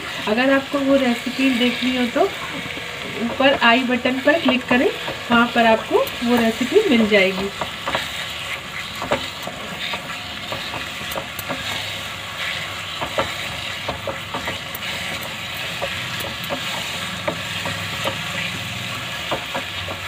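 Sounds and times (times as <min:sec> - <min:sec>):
food sizzling in pan: 0:00.0 - 0:20.0
spatula scraping pan: 0:00.0 - 0:20.0.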